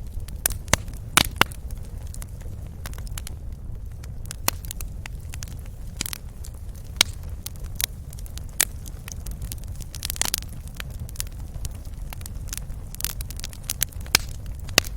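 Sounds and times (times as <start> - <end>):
fire popping: 0.0 - 14.9
wood fire crackling: 0.0 - 14.9.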